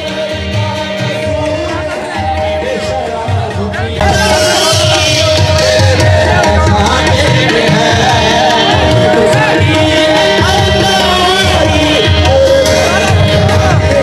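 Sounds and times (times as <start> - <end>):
ornamented singing: 0.0 - 14.0.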